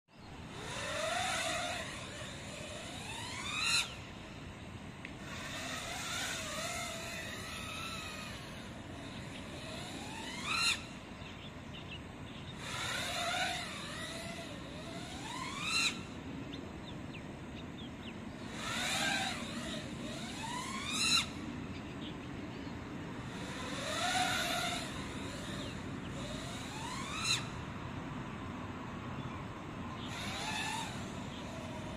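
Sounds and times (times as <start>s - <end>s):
quadcopter motors whining: 0.1s - 31.9s.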